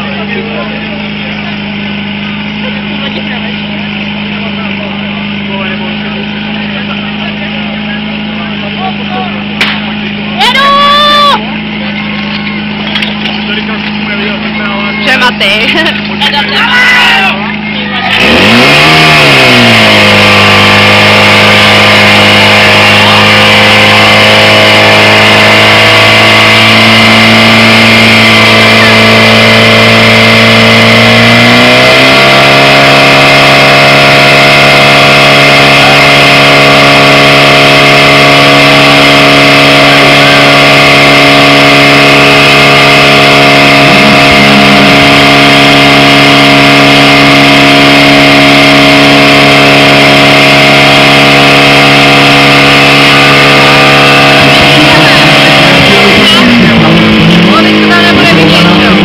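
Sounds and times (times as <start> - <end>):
pump engine revving: 0.0 - 59.0.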